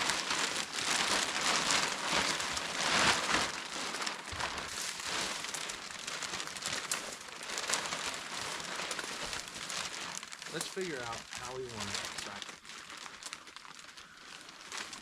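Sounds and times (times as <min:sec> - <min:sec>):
plastic sheeting rustling: 0:00.0 - 0:15.0.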